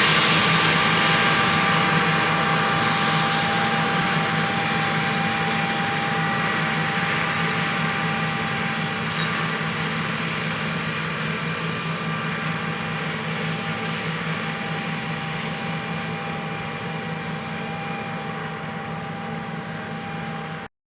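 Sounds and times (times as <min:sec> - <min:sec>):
combine harvester droning: 0:00.0 - 0:20.7.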